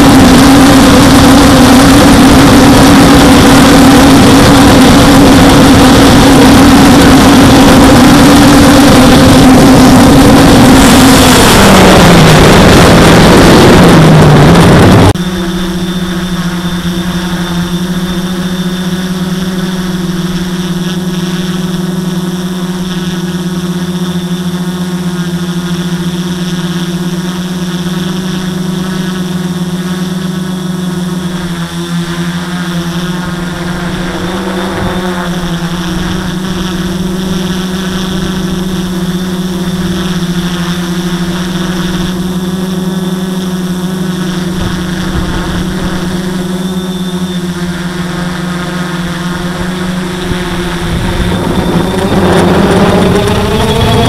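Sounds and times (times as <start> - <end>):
wind buffeting: 0.0 - 22.0, 31.0 - 54.0
drone motor whine: 0.0 - 54.0
steady hum: 0.0 - 54.0.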